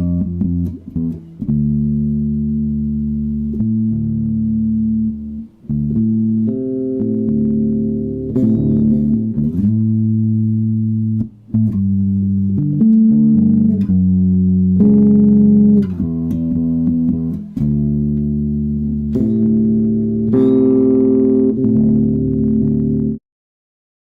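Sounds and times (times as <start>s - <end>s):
electric bass guitar: 0.0s - 23.2s.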